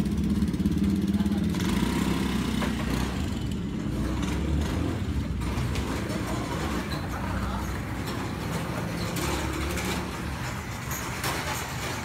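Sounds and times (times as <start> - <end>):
motor scooter engine running: 0.0 - 10.8.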